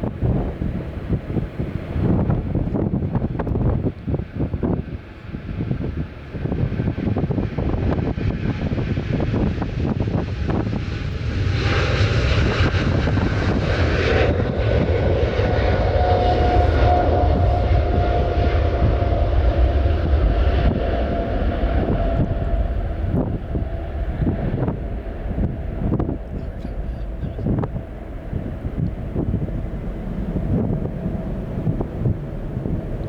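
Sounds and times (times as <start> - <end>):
jet airliner passing: 0.0 - 33.0
wind buffeting microphone: 0.0 - 33.0.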